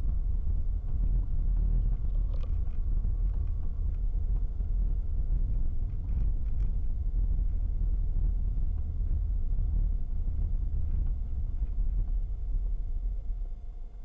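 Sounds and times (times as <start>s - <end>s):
car driving low rumble: 0.0s - 14.0s.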